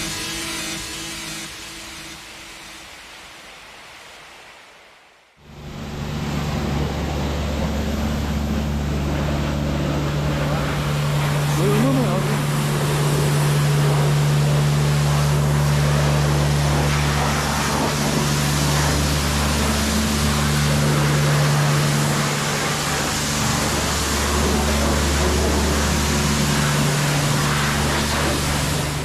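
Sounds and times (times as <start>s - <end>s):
off-road vehicle engine droning: 5.4s - 29.0s
wind and driving noise: 5.5s - 29.0s.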